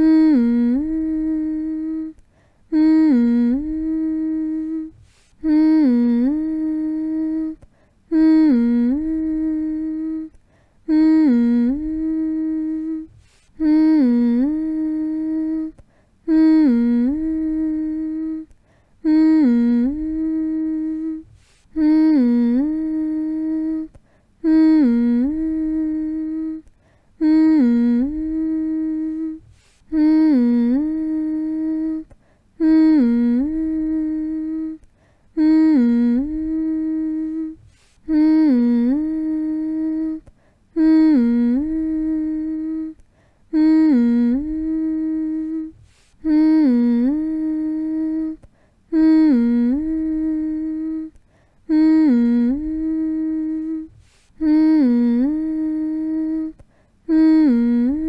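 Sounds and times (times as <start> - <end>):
person humming a lullaby: 0.0 - 58.0.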